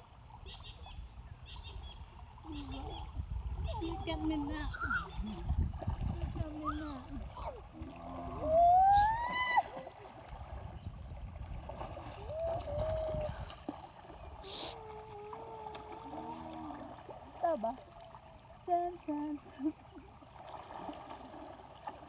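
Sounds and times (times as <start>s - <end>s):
water noise: 0.0s - 22.0s
wind: 0.0s - 22.0s.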